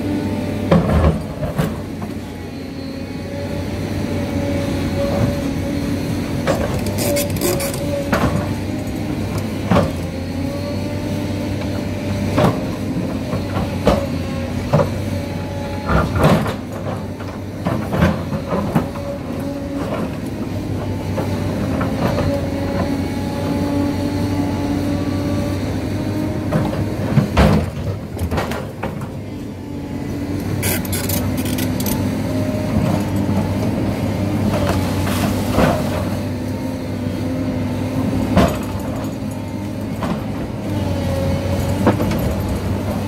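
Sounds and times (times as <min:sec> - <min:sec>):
excavator diesel engine: 0:00.0 - 0:43.0
hydraulic whine: 0:00.0 - 0:43.0.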